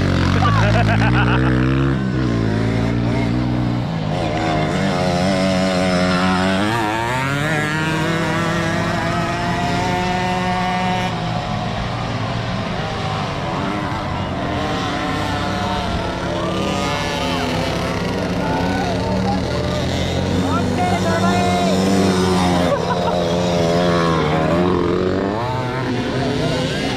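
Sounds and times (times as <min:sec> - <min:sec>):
dirt bike engines revving: 0:00.0 - 0:26.9.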